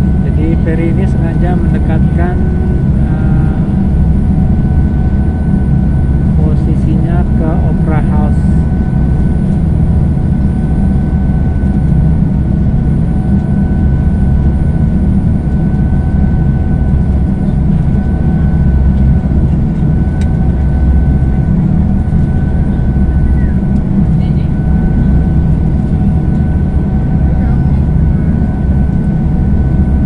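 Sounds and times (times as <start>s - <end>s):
faint whine: 0.0s - 30.0s
ship engines rumbling: 0.0s - 30.0s.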